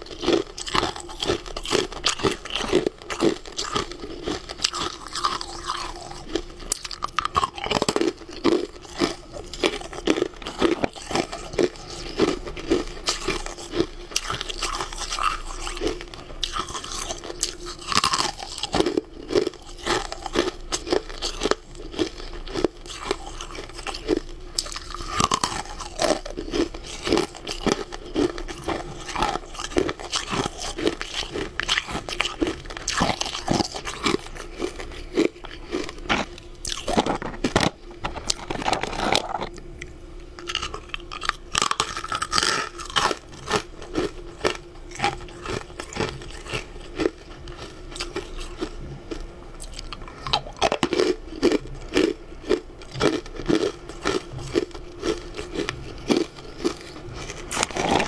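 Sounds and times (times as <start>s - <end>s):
crunching and chewing food: 0.0s - 58.0s.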